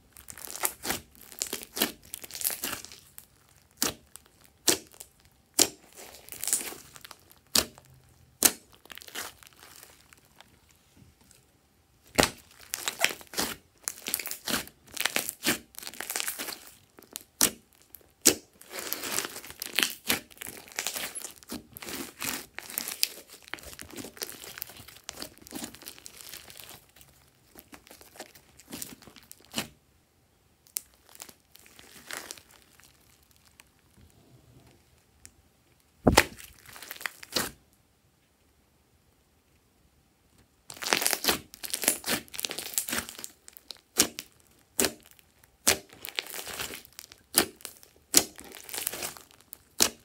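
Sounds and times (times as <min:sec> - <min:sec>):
slime crackling and squelching: 0:00.0 - 0:11.4, 0:12.0 - 0:29.8, 0:30.6 - 0:34.0, 0:35.8 - 0:37.6, 0:40.6 - 0:50.0.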